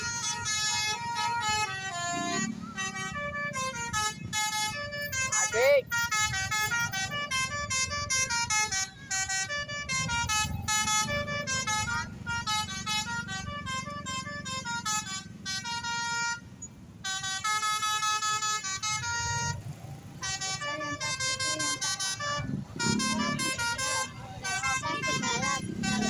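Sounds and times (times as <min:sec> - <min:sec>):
bus musical horn tune: 0:00.0 - 0:26.0
low engine rumble: 0:00.0 - 0:26.0.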